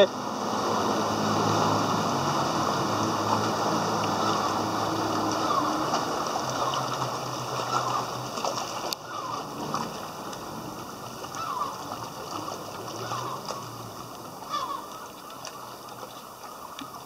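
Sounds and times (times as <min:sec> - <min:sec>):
jet ski engines running: 0:00.0 - 0:17.0
water rushing and splashing: 0:00.0 - 0:17.0.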